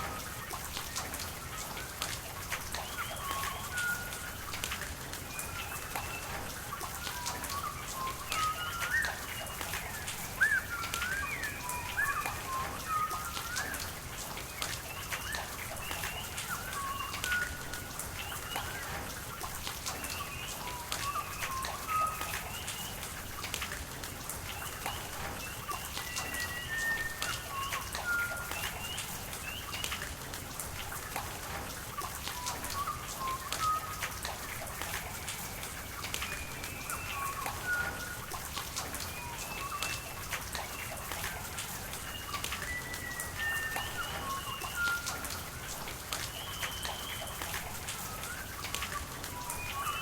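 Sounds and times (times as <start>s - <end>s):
rain dripping: 0.0s - 50.0s.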